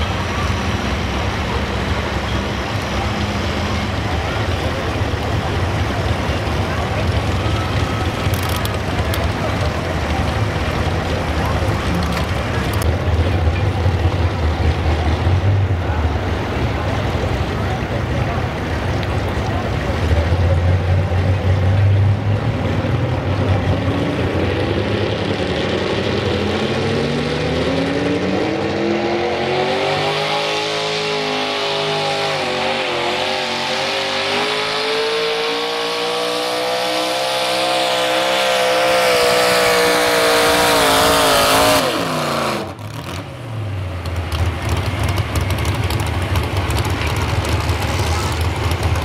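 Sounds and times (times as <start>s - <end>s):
truck engine at full power: 0.0s - 49.0s.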